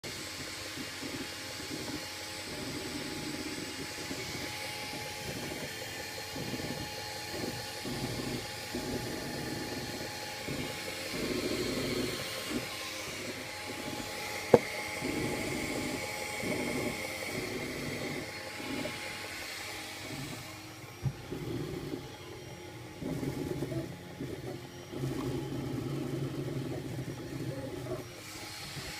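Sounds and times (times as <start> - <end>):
printer fans whirring: 0.0 - 28.9.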